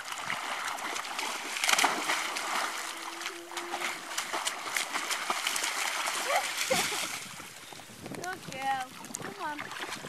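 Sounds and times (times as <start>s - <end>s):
dogs splashing in water: 0.0s - 7.6s, 8.2s - 10.0s.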